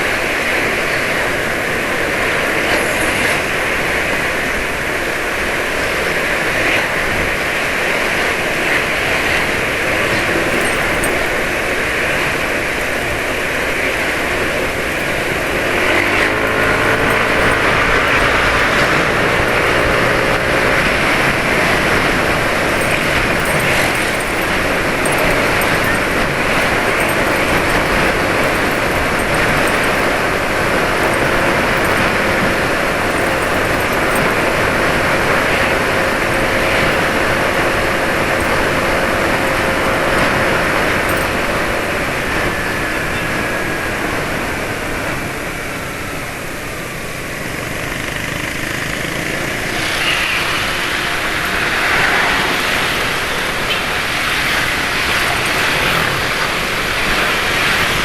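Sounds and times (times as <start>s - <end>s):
motorbike traffic on road: 0.0s - 58.0s.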